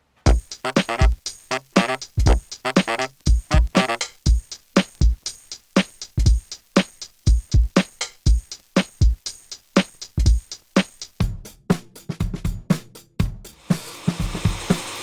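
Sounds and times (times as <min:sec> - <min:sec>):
electronic drum beat: 0:00.3 - 0:15.0.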